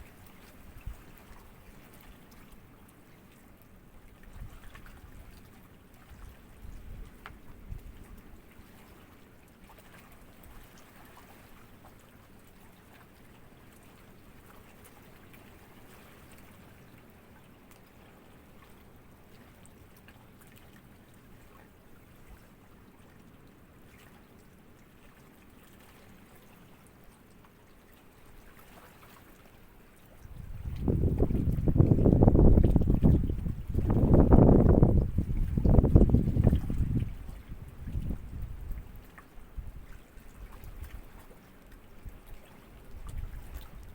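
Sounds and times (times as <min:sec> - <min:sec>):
shallow water trickling: 0:00.0 - 0:43.9.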